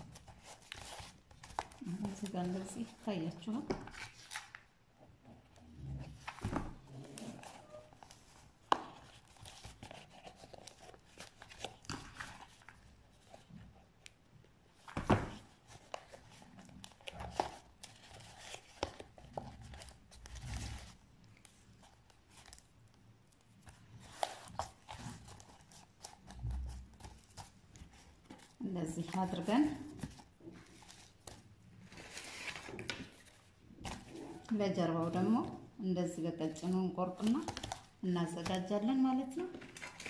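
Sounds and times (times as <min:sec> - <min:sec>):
paper and cardboard rustling: 0:00.0 - 0:04.7, 0:05.6 - 0:14.0, 0:14.7 - 0:22.7, 0:23.5 - 0:35.7, 0:36.5 - 0:40.0.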